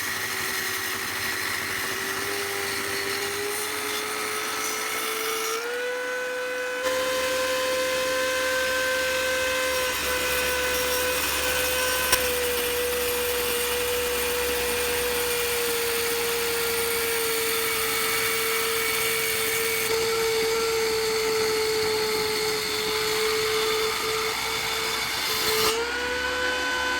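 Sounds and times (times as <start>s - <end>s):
electric drill motor whine: 0.0s - 26.9s.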